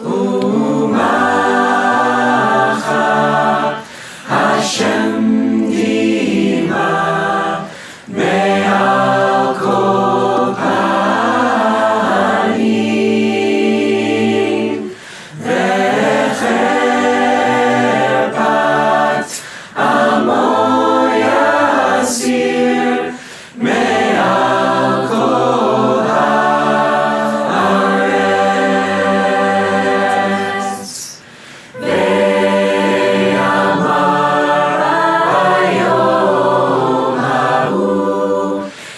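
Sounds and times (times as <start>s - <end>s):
mixed choir singing a cappella: 0.0s - 38.9s.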